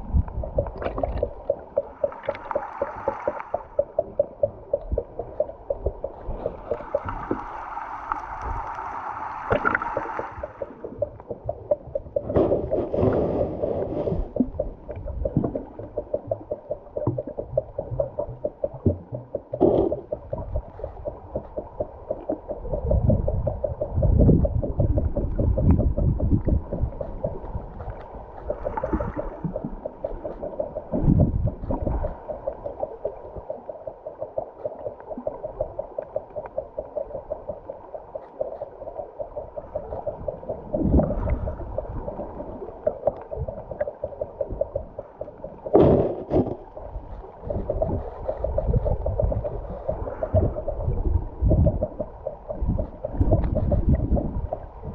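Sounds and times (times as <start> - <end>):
low surges of water: 0.0 - 54.9
underwater river gurgle: 0.0 - 54.9.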